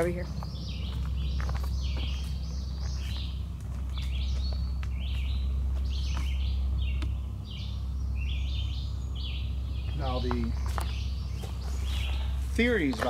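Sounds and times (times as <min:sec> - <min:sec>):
high chirping calls: 0:00.0 - 0:13.0.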